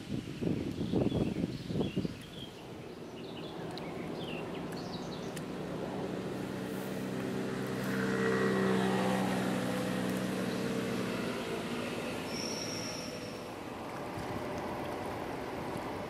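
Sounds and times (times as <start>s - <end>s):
speedboat engine passing: 2.5s - 16.0s.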